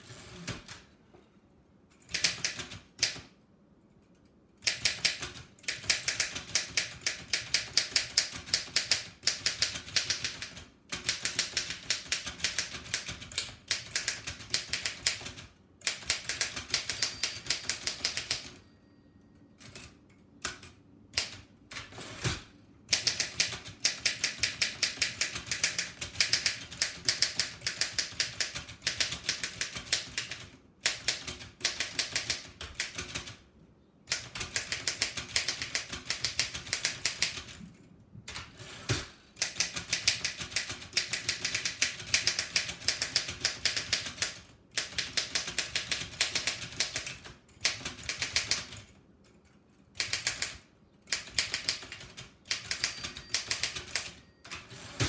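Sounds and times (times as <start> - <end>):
typewriter typing: 2.0 - 3.3, 4.6 - 18.6, 19.6 - 33.4, 34.1 - 37.6, 38.3 - 49.0, 49.9 - 55.0.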